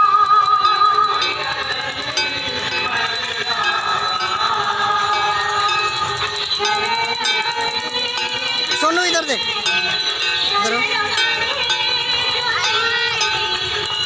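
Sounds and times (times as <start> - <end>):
devotional singing and music: 0.0 - 14.0
hand bells ringing rapidly: 0.0 - 14.0.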